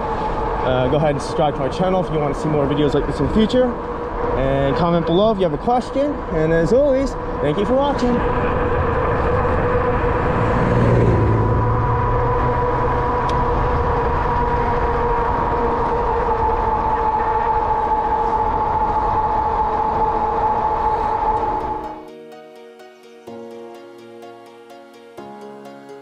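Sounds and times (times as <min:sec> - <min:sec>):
wind buffeting microphone: 0:00.0 - 0:21.8.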